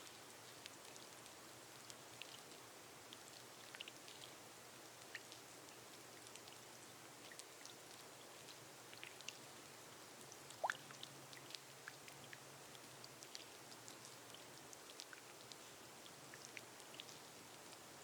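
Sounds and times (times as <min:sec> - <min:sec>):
rain on a glass roof: 0:00.0 - 0:18.0.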